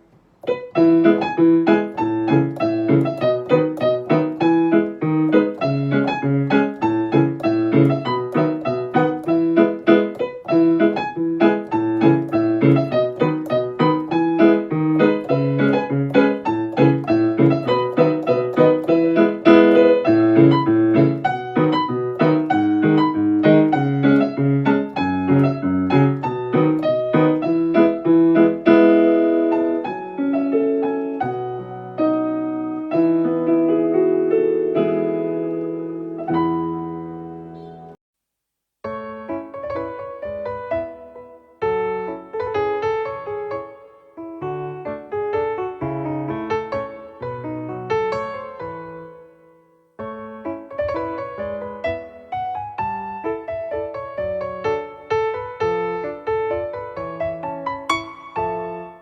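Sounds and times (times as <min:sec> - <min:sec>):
piano music: 0:00.0 - 0:38.0, 0:38.9 - 0:59.0.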